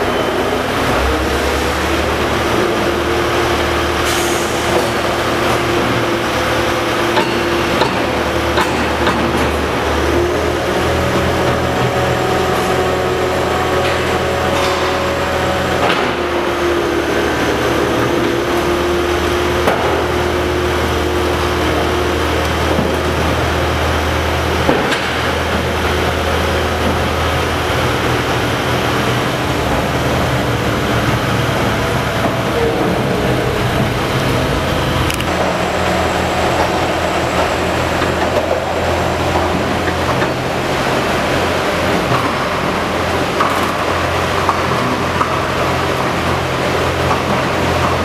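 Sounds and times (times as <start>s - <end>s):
deep machinery hum with tones: 0.0s - 48.0s.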